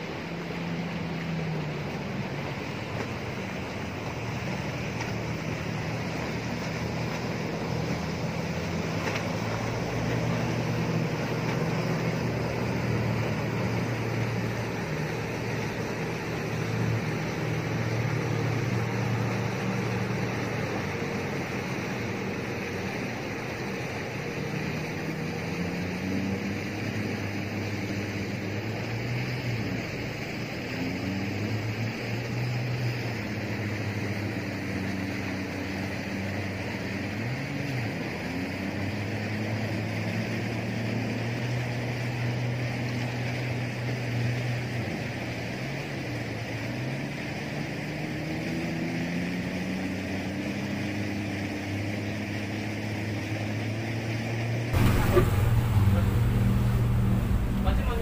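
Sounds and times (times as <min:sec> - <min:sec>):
wind and water rushing: 0:00.0 - 0:53.9, 0:54.5 - 0:58.0
boat engine droning: 0:00.0 - 0:58.0.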